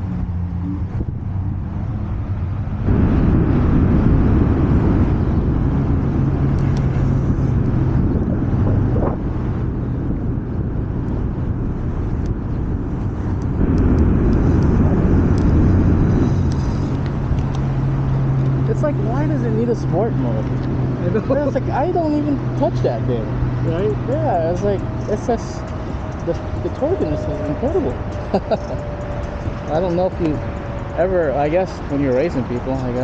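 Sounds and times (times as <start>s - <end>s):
steady low hum: 0.0s - 33.0s
wind and road noise: 0.0s - 33.0s.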